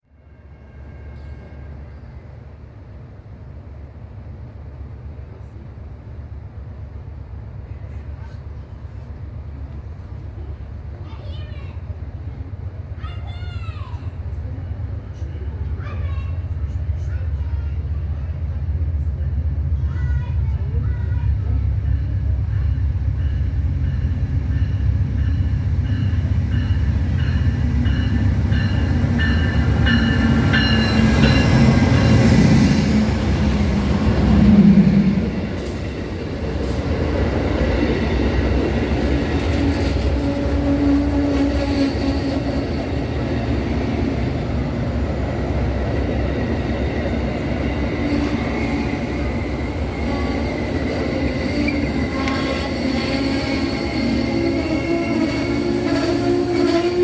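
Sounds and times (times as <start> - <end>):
train wheels rumbling on rails: 2.6 - 57.0.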